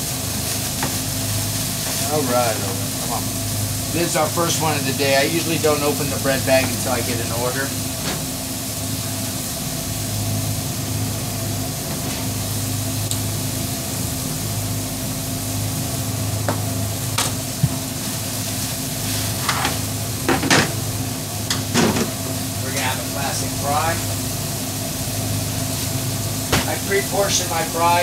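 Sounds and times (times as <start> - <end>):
food sizzling on a griddle: 0.0 - 28.0
steady machine hum: 0.0 - 28.0.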